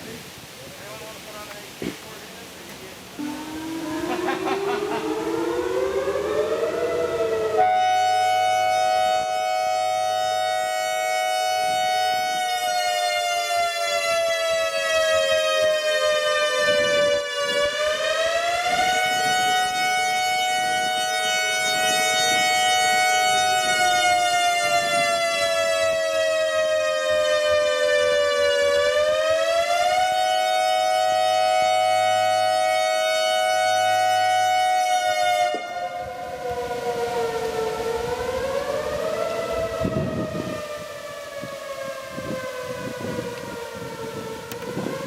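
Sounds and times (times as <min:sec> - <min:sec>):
outdoor warning siren: 0:03.0 - 0:45.0.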